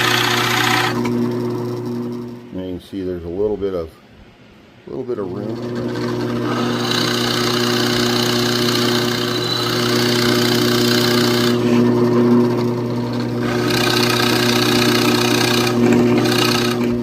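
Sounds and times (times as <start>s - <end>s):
power tool motor hum: 0.0s - 2.4s, 5.2s - 17.0s
wood cutting noise: 0.0s - 2.5s, 5.1s - 17.0s.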